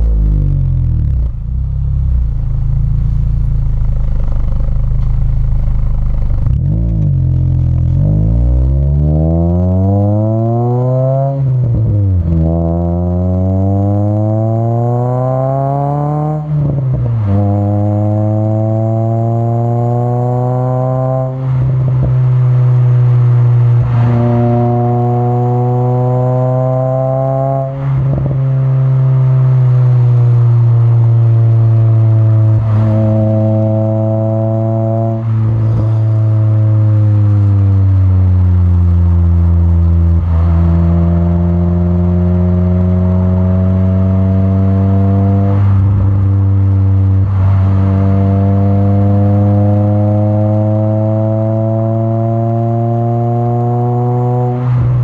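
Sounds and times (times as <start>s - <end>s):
car exhaust revving: 0.0s - 55.0s.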